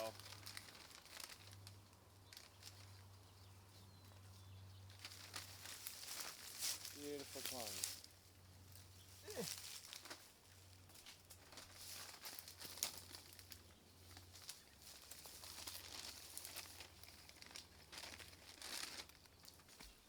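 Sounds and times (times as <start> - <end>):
branches and leaves rustling: 0.0 - 20.0.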